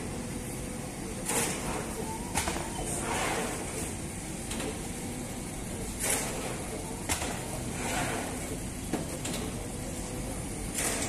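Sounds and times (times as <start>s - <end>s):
bakery machinery rumbling: 0.0s - 11.0s.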